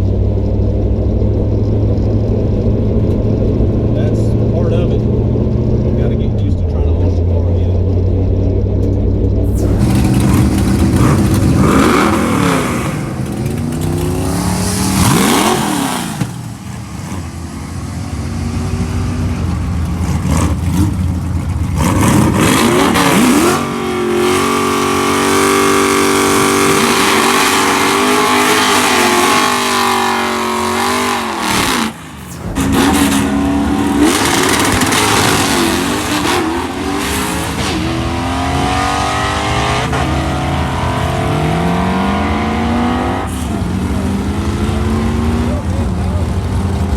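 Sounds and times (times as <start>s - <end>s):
drag car engines revving: 0.0s - 46.9s.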